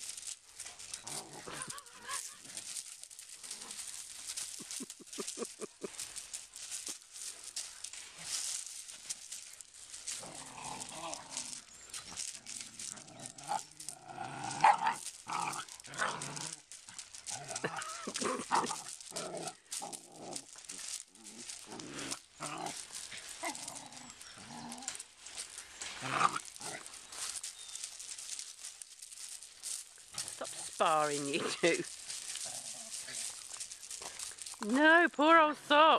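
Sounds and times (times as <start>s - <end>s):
puppies play-growling: 0.0s - 34.8s.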